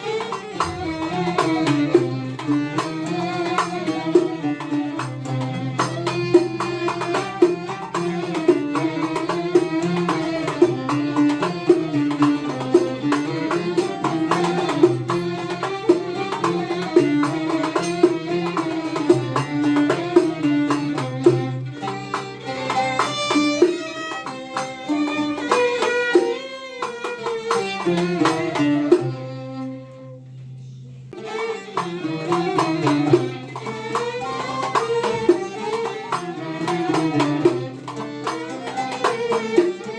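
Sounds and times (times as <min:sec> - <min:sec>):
hand drum percussion: 0:00.0 - 0:29.7, 0:31.1 - 0:39.9
folk melodic instrument: 0:00.0 - 0:39.9.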